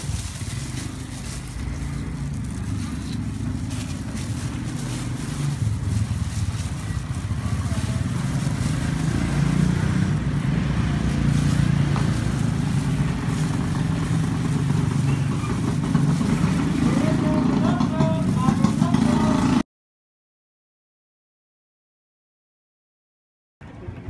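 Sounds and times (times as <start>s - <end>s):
engine running: 0.0s - 19.6s.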